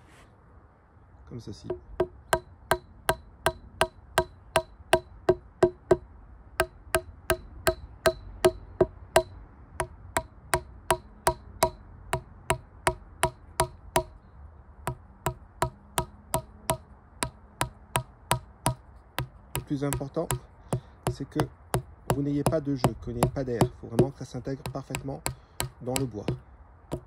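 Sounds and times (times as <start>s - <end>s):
rubber mallet tapping wooden dowels: 1.7s - 6.0s, 6.6s - 14.2s, 14.9s - 27.0s.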